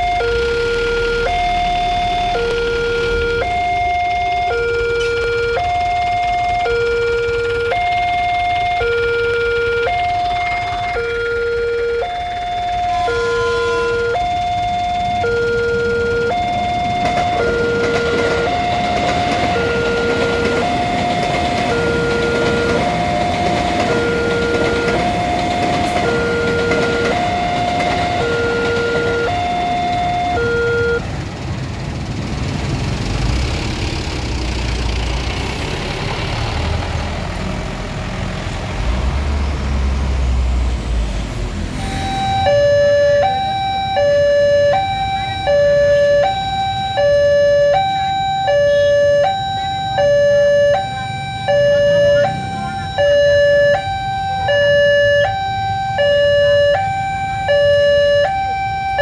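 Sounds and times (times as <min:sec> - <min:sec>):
two-tone level-crossing alarm: 0:00.0 - 0:31.1, 0:41.8 - 0:59.0
heavy vehicle engines rumbling: 0:00.0 - 0:59.0.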